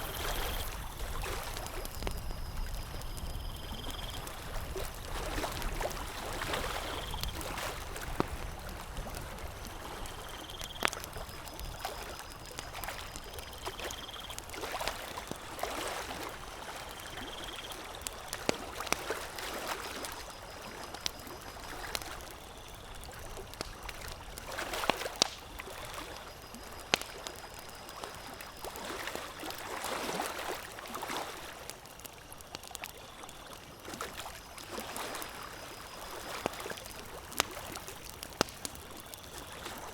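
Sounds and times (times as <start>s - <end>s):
lake water lapping: 0.0s - 22.3s, 23.0s - 32.0s, 33.0s - 39.9s
campfire crackling and popping: 0.0s - 39.9s.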